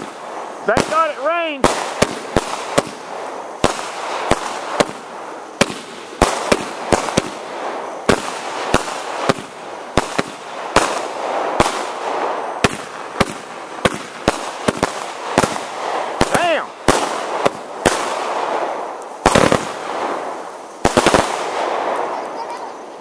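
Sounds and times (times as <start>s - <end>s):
fireworks bangs: 0.0s - 23.0s
fireworks crackle: 0.0s - 23.0s.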